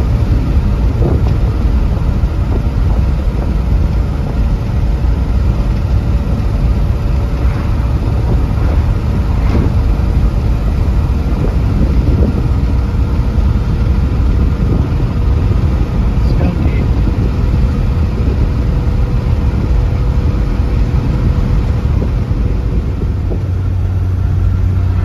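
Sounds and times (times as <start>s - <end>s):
car engine and road noise: 0.0s - 25.0s
wind: 0.0s - 25.0s.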